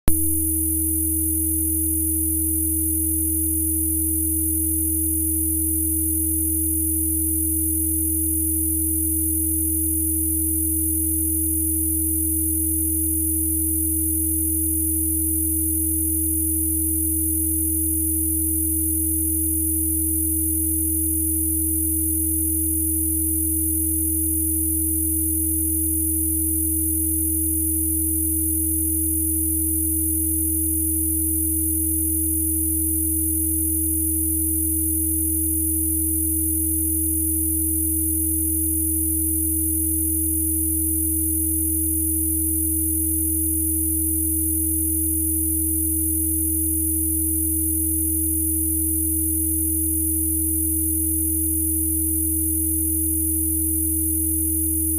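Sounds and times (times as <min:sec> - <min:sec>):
clear sine tone: 0:00.0 - 0:54.9.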